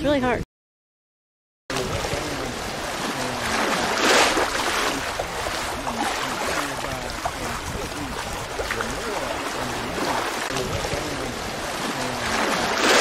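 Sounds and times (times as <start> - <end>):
water rushing along hulls: 1.7 - 13.0
wave splashing: 1.7 - 13.0.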